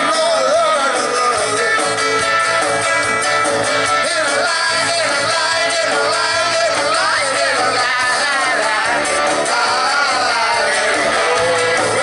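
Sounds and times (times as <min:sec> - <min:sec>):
man singing into microphone: 0:00.0 - 0:02.0, 0:03.9 - 0:12.0
rock band playing live: 0:00.0 - 0:12.0.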